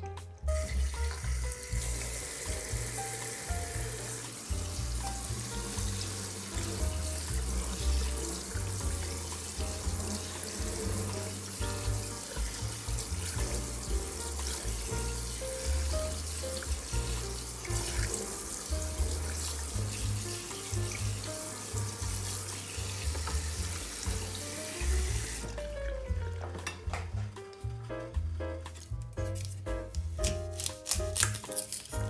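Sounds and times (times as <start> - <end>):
background music with bass line: 0.0 - 32.0
faucet spraying water: 0.3 - 26.2.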